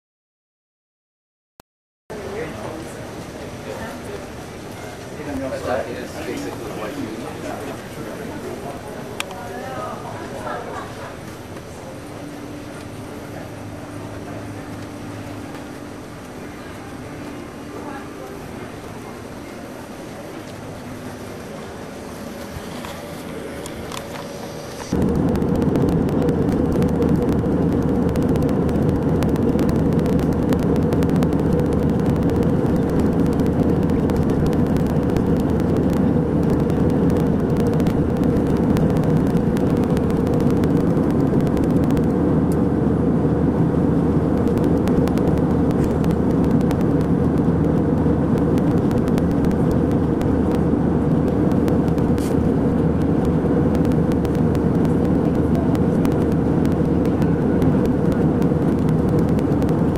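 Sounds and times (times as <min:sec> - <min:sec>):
airliner cabin rumble: 0:02.1 - 0:59.9.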